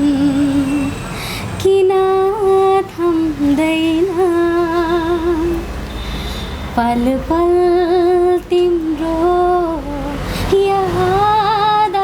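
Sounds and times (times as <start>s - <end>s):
woman singing: 0.0s - 1.0s, 1.6s - 5.7s, 6.7s - 12.0s.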